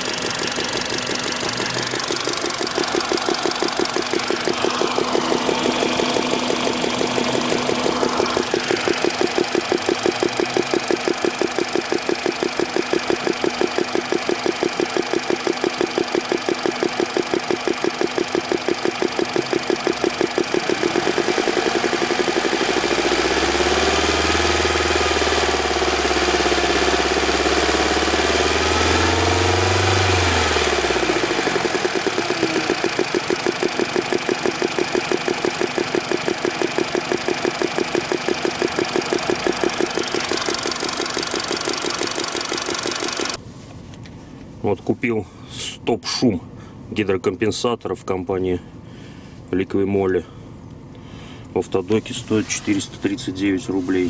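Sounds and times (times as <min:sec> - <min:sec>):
car engine idling: 0:00.0 - 0:44.6.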